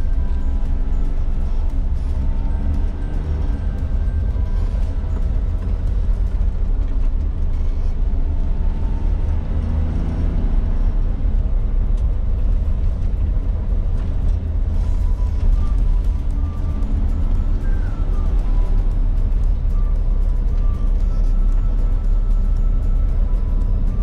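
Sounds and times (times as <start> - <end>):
car engine low rumble: 0.0 - 24.0
tyres on the road: 0.0 - 24.0.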